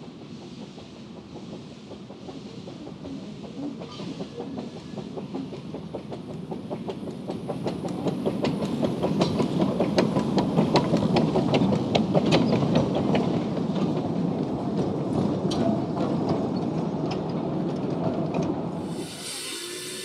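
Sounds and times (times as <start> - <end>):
steam train rumbling past: 0.0 - 20.0
wheels clicking on track: 0.0 - 20.0.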